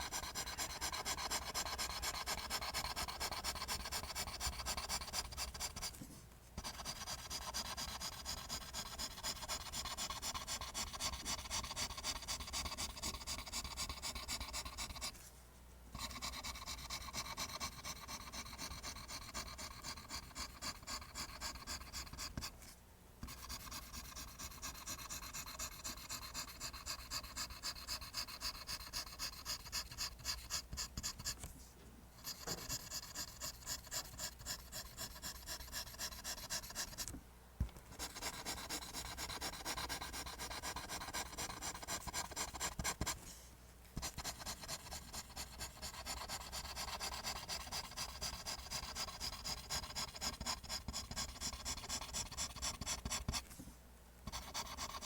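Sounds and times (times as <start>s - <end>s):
pencil scratching on paper: 0.0s - 6.0s, 6.6s - 15.3s, 16.0s - 31.5s, 32.2s - 37.1s, 37.9s - 43.2s, 44.0s - 53.5s, 54.3s - 55.0s.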